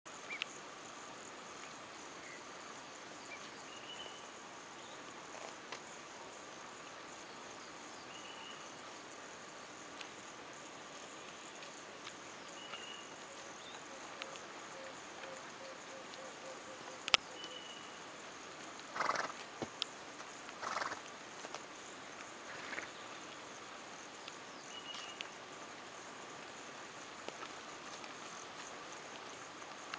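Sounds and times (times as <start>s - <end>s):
insect chorus: 0.1s - 29.9s.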